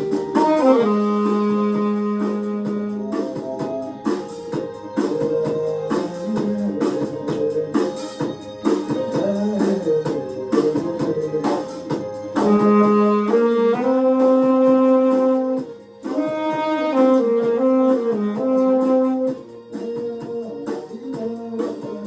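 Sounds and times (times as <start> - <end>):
wind instrument playing: 0.0 - 10.6, 12.3 - 20.7
backing track with steady beat: 0.0 - 22.0.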